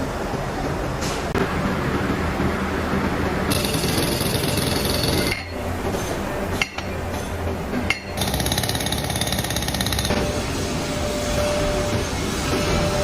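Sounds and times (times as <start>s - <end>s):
factory machinery clatter: 0.0s - 13.0s
machine running noise: 1.4s - 13.0s.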